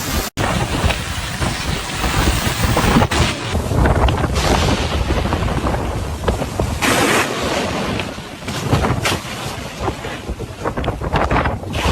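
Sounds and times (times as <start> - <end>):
storm wind buffeting microphone: 0.0 - 11.9.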